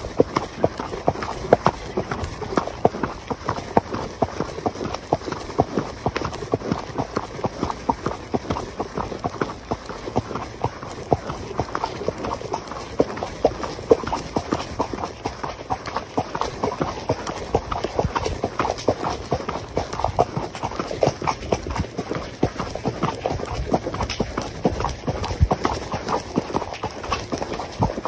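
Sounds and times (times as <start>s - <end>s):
hooves on gravel: 0.0s - 28.0s.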